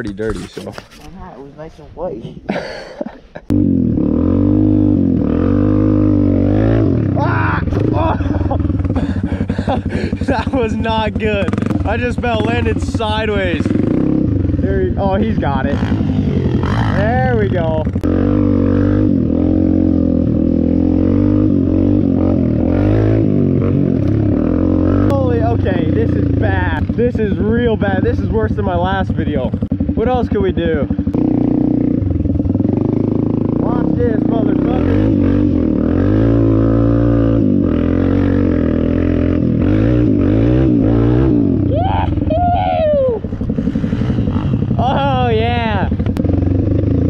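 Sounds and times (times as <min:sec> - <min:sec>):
dirt bike engine revving: 0:03.5 - 0:47.0.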